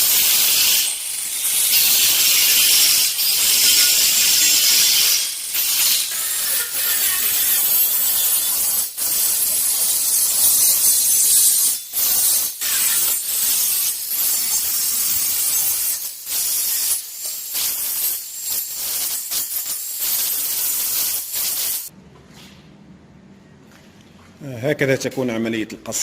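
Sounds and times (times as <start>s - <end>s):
plasma cutter hissing: 0.0s - 21.9s.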